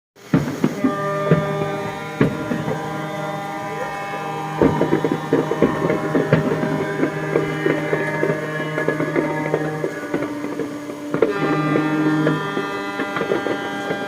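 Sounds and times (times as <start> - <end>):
fireworks bangs: 0.2 - 14.0
ships' horns sounding a chord: 0.3 - 14.0.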